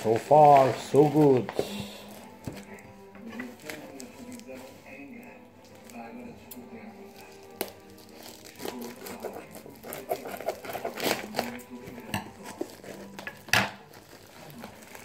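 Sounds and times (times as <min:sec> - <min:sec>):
bubble wrap crinkling and tearing: 0:00.0 - 0:15.0.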